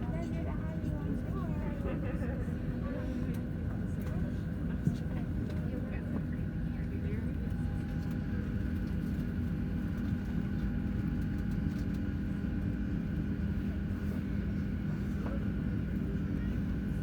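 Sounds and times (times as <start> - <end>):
aircraft cabin hum: 0.1 - 17.0.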